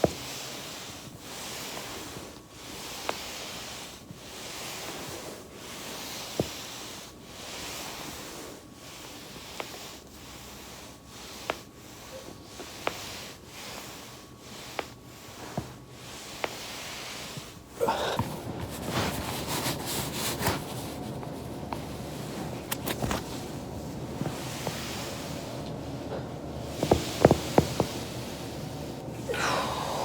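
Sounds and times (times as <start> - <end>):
foam roller rustling swish: 0.0 - 30.0.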